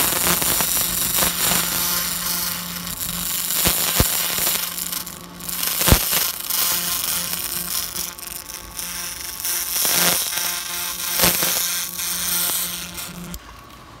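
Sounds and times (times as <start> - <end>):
laser crackling buzz on stone: 0.0 - 13.4
steady low hum: 0.0 - 14.0.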